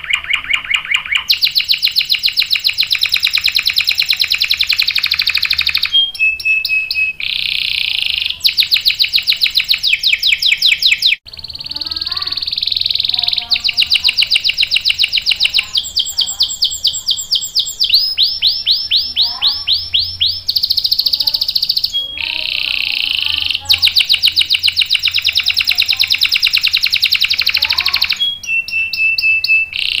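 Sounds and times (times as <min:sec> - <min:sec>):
canary singing rolling trills: 0:00.0 - 0:30.0.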